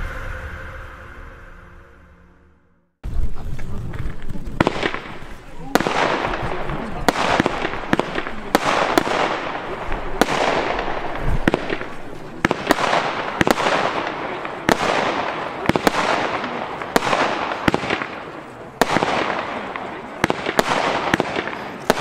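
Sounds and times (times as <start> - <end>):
firework bangs: 3.0 - 22.0.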